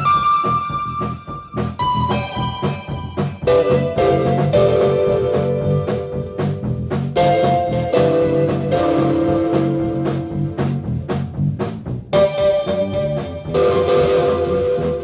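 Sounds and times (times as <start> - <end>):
held guitar chords: 0.0 - 11.4, 12.0 - 15.0
drum kit steady beat: 0.0 - 15.0.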